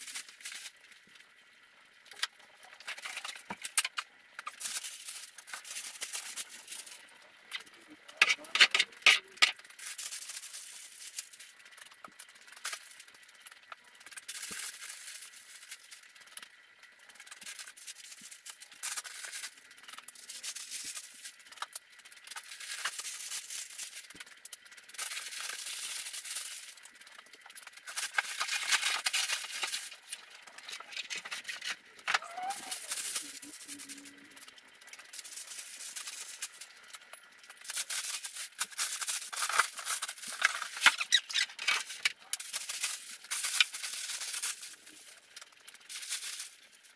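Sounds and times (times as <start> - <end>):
plastic and paper crinkling: 0.0 - 1.2, 2.0 - 46.9.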